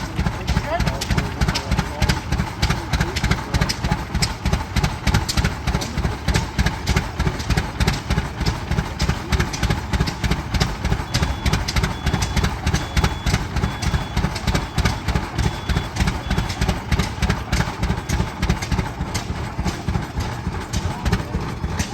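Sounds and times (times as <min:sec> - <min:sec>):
tractor engine running slowly: 0:00.0 - 0:21.9.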